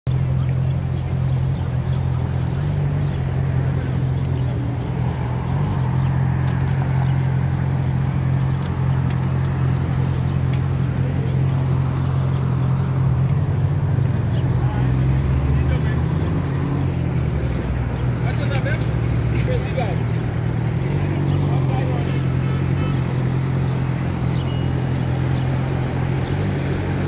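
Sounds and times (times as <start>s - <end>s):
low traffic rumble: 0.0s - 27.0s
cars going by: 0.1s - 27.0s.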